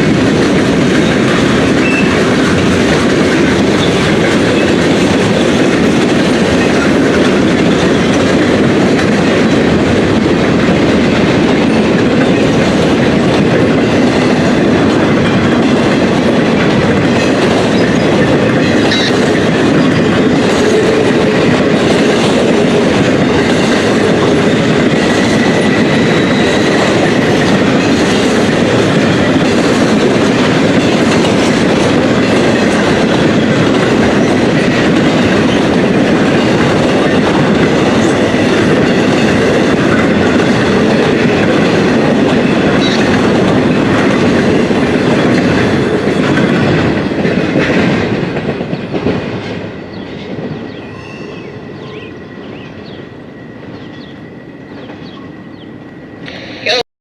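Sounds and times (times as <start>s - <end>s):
train wheels clacking over rail joints: 0.0s - 52.1s.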